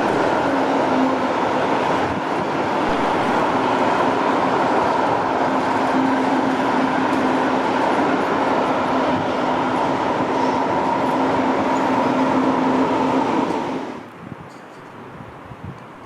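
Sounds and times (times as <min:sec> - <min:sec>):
train passing: 0:00.0 - 0:14.6.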